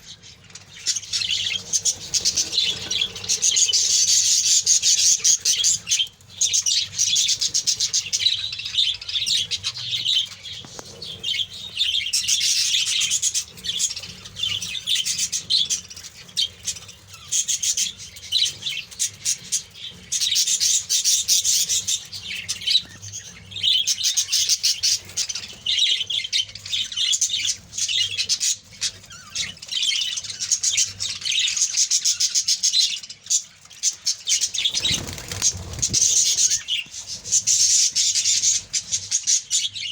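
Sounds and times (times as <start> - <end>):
budgerigars chattering: 0.7 - 33.4, 34.1 - 39.9.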